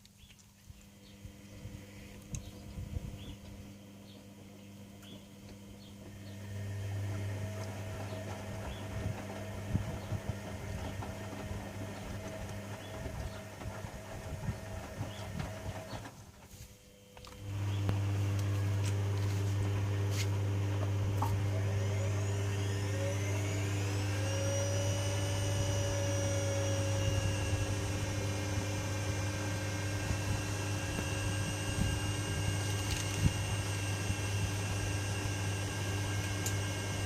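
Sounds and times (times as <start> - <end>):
washing machine low hum: 0.0 - 37.0
washing machine motor whine: 0.8 - 37.0.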